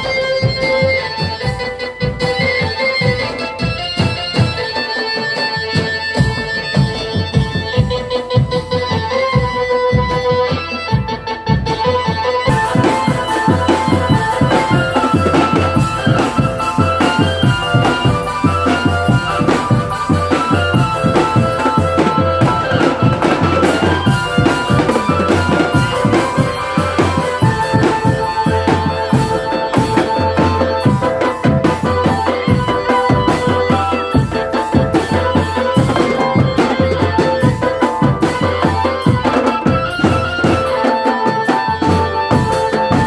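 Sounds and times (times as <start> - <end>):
drums beating fast rhythm: 0.0 - 43.0
sustained melody line: 0.0 - 43.0.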